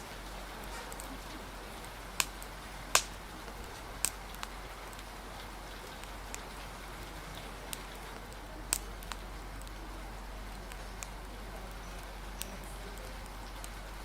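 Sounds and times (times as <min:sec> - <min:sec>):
rain hissing: 0:00.0 - 0:14.0
sharp pops and ticks: 0:00.0 - 0:14.0.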